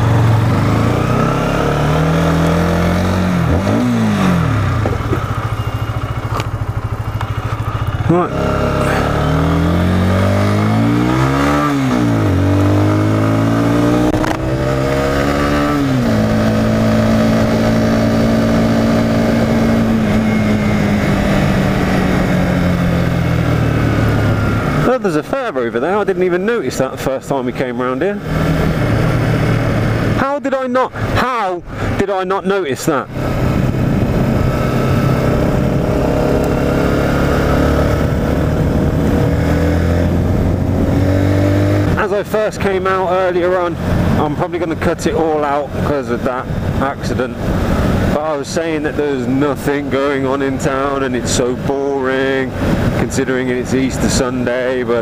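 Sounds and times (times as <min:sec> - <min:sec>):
wind noise: 0:00.0 - 0:24.9, 0:28.2 - 0:30.2, 0:33.0 - 0:55.0
motorcycle engine revving: 0:00.0 - 0:32.0, 0:32.7 - 0:55.0.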